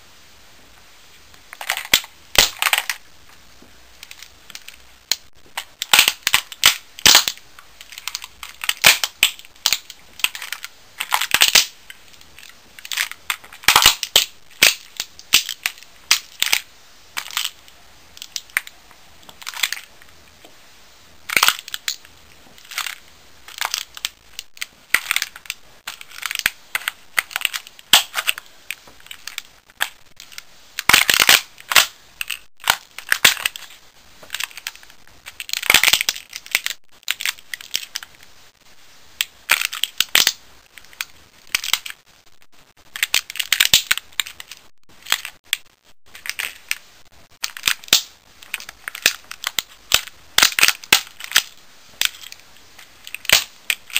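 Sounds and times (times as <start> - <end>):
plastic cracking under boots: 1.5 - 3.0, 3.6 - 20.6, 21.3 - 38.3, 39.2 - 53.9.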